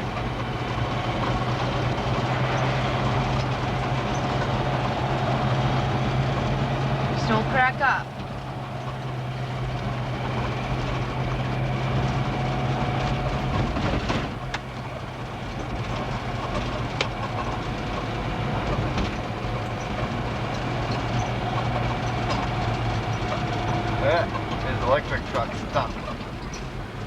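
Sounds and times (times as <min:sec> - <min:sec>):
car engine and road hum: 0:00.0 - 0:27.0.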